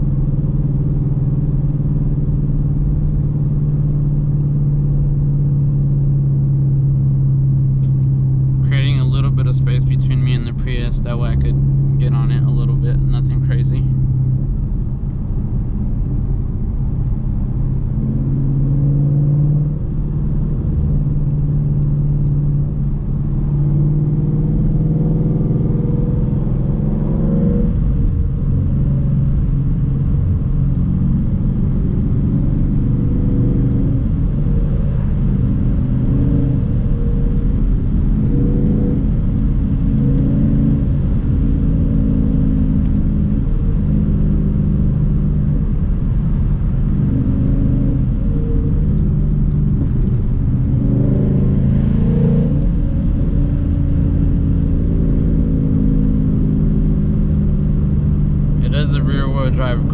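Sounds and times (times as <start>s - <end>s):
car engine accelerating hard: 0.0s - 59.9s
low road rumble: 0.0s - 59.9s.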